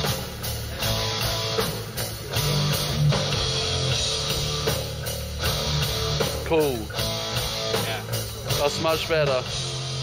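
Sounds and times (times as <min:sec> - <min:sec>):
hard rock music: 0:00.0 - 0:10.0.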